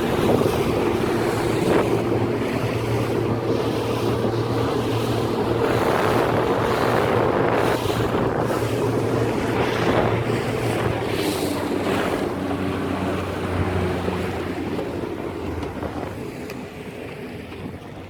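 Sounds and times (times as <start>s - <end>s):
boat engine running: 0.0s - 18.0s
water rushing past hull: 0.0s - 18.0s
wind on microphone: 0.0s - 18.0s.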